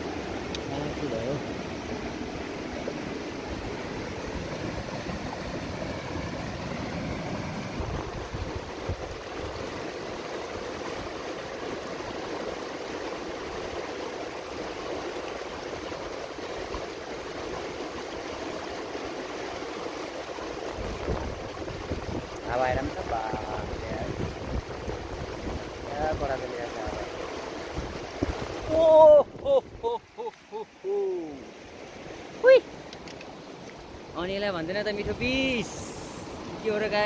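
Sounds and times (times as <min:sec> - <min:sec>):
river rushing over boulders: 0:00.0 - 0:37.0.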